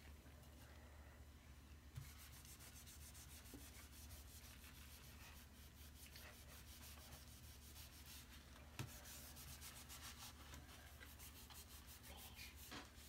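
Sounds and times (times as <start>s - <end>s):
knuckles scrubbing wood tabletop: 2.0s - 13.0s.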